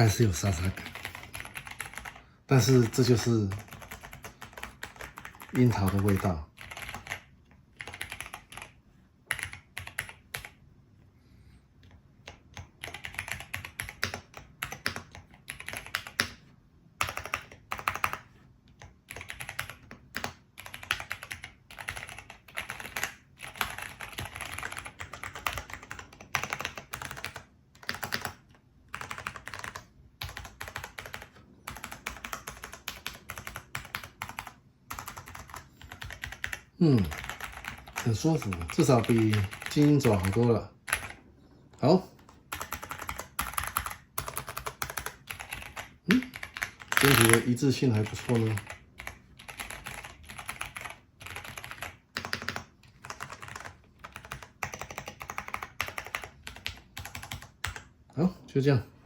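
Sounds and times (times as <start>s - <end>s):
mechanical keyboard typing: 0.0s - 10.6s, 11.8s - 41.2s, 42.2s - 57.9s.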